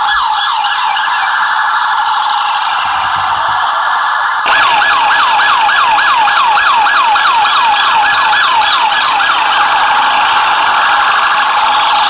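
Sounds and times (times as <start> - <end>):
toy electronic siren wailing: 0.0 - 12.0.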